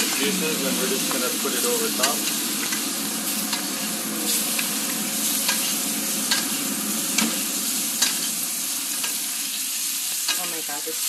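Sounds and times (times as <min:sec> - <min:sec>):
steak sizzling in butter: 0:00.0 - 0:11.0.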